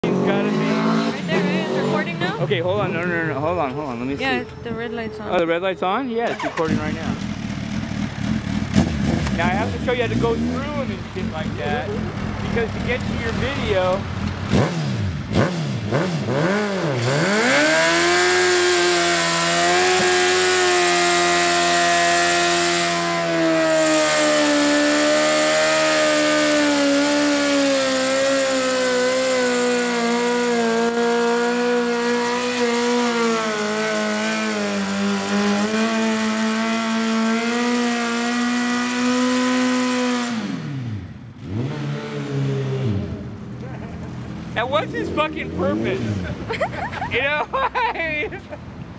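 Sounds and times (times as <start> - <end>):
motorcycle engine revving: 0.0 - 5.5, 6.2 - 47.3.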